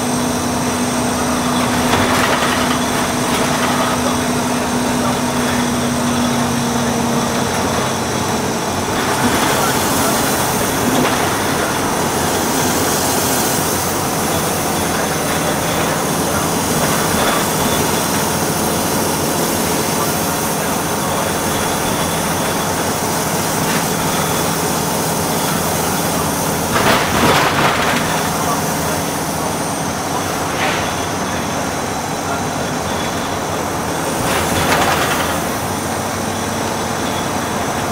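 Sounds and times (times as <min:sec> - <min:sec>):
bus engine hum: 0:00.0 - 0:37.9
road noise: 0:00.0 - 0:37.9.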